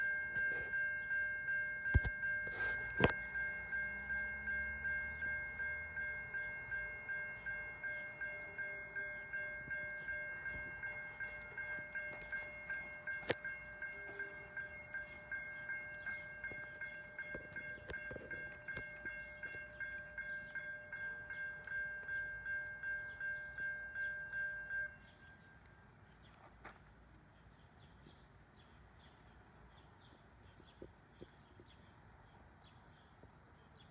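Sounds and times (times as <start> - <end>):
crossing warning bell ringing: 0.0 - 30.0.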